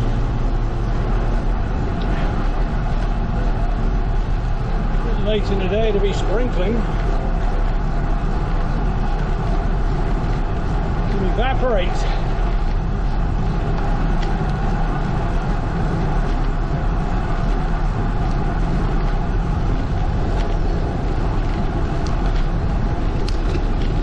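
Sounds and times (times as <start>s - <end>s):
road and tyre noise: 0.0s - 24.0s
wind rumble on microphone: 0.0s - 24.0s.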